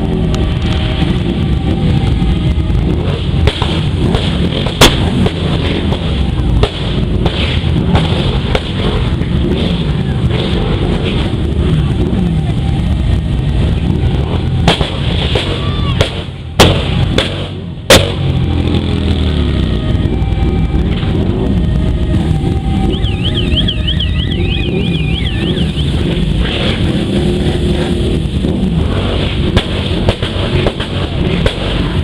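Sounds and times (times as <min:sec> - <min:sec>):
motorcycle engines revving: 0:00.0 - 0:32.0
sharp bangs: 0:00.1 - 0:32.0.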